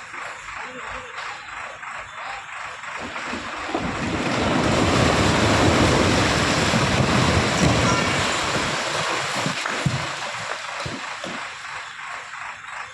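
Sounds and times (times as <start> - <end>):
falling masonry rumble: 0.0 - 12.9.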